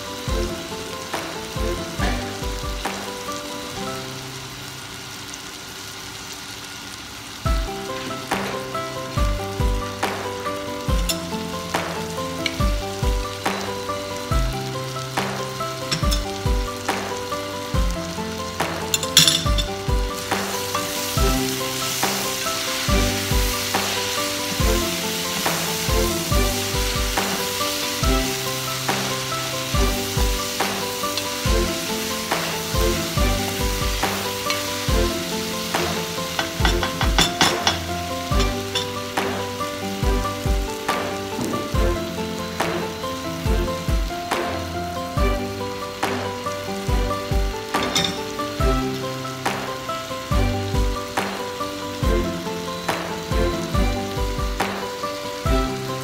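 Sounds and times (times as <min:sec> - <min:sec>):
background music with a beat: 0:00.0 - 0:03.5, 0:07.5 - 0:56.0
vegetables sizzling in a pot: 0:00.0 - 0:56.0.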